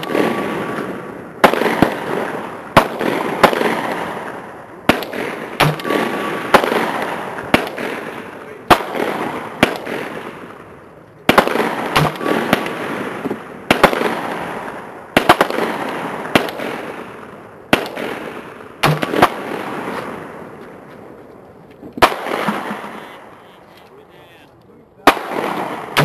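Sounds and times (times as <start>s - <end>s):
echoing rifle shots: 0.0s - 20.9s, 22.0s - 23.9s, 25.0s - 26.0s.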